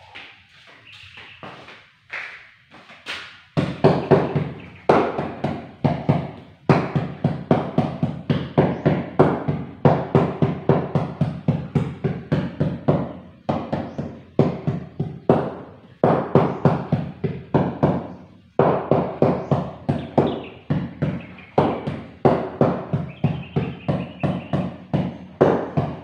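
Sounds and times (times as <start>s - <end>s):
knocking on floor tile: 3.6s - 26.0s.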